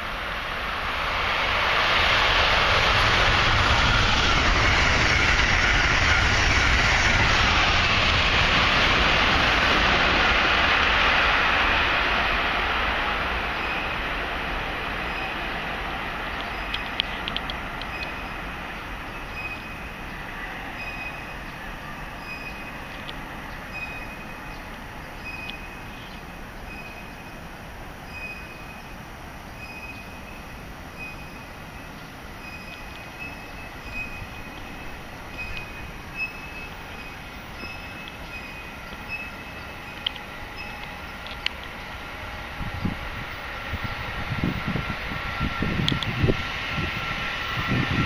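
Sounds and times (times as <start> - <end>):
train running on track: 0.0 - 48.0.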